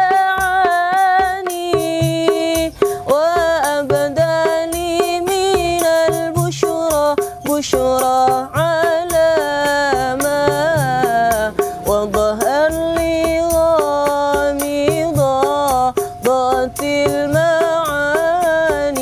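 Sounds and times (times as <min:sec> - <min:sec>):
hand drum beat: 0:00.0 - 0:19.0
sliding melody of street buskers: 0:00.0 - 0:19.0.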